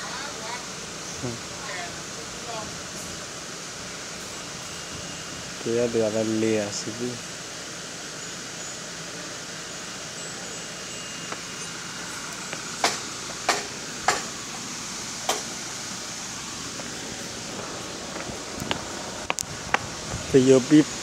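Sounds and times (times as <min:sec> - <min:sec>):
steady outdoor hiss: 0:00.0 - 0:21.0.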